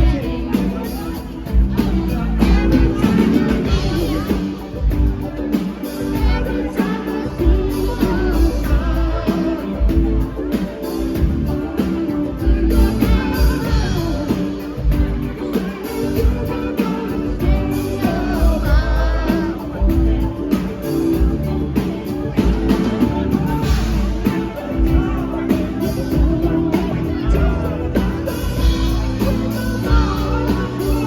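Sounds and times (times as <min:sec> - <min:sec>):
lead vocal singing: 0:00.0 - 0:31.0
live rock band playing: 0:00.0 - 0:31.0.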